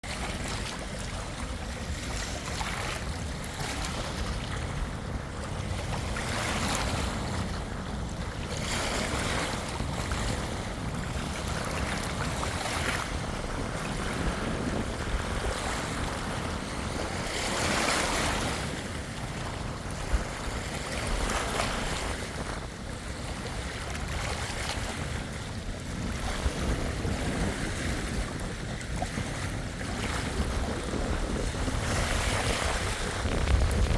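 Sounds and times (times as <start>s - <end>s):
waves washing in: 0.0s - 33.9s
wind rumbling on microphone: 0.0s - 33.9s.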